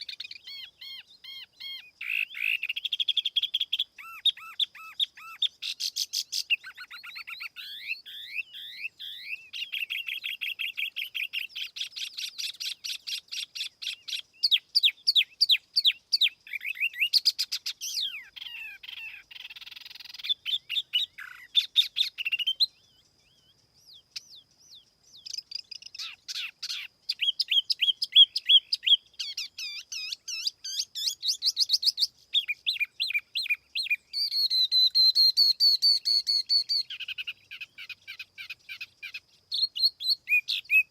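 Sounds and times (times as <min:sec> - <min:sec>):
songbird singing chirping trills: 0:00.0 - 0:40.9.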